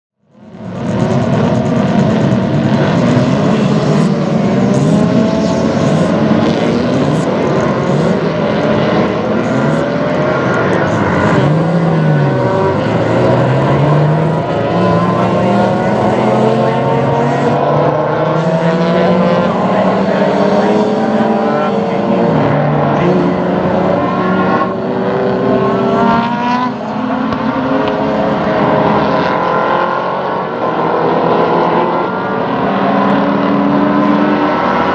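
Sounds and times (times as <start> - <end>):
racing car engines accelerating: 0.3 - 34.9.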